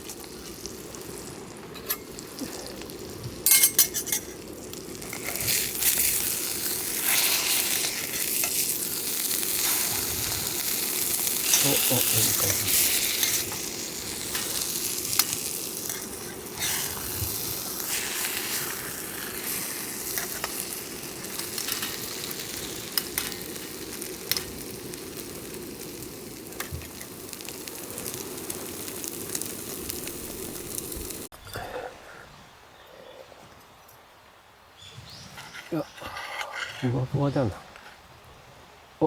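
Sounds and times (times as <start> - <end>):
food sizzling in a pan: 0.0 - 31.3.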